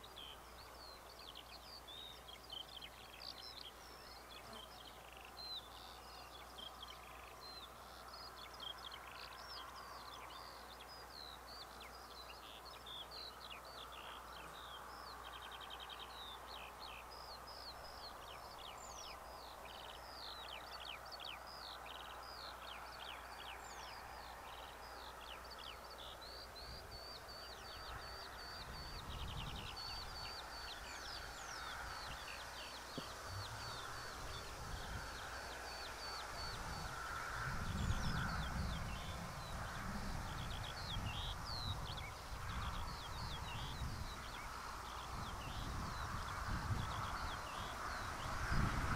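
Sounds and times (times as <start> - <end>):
faint outdoor hiss: 0.0 - 48.9
songbirds singing: 0.0 - 48.9.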